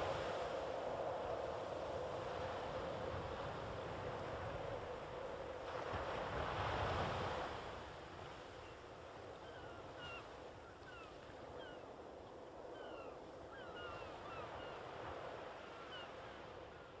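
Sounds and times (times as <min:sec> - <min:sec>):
surf and wind: 0:00.0 - 0:17.0.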